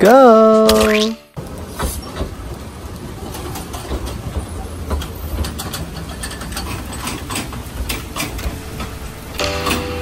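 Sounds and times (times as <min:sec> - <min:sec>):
train rumbling: 0:01.4 - 0:10.0
wheels clicking and clanking: 0:01.4 - 0:10.0.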